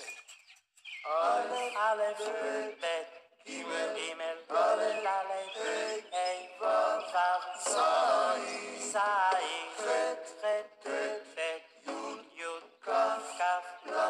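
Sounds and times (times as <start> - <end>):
synthetic singing voice song: 1.0 - 14.0.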